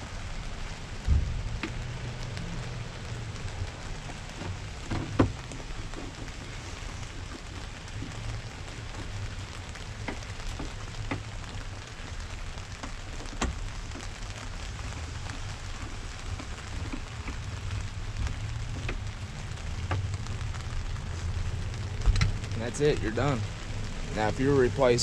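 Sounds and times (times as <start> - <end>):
steady hiss with low rumble: 0.0 - 25.0.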